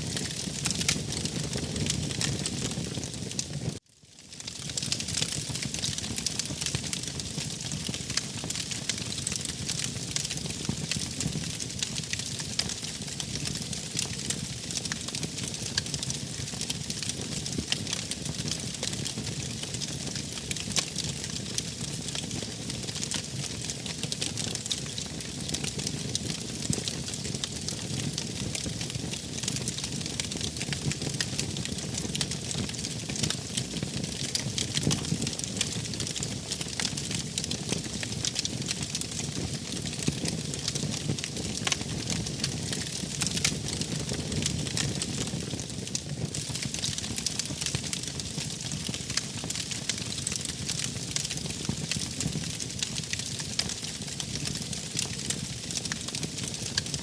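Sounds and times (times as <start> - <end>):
wood fire crackling: 0.0 - 3.8, 4.4 - 57.0.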